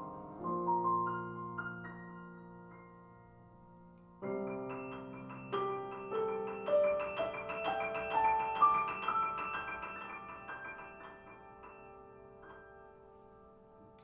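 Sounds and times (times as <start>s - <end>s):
solo piano playing: 0.0s - 14.0s.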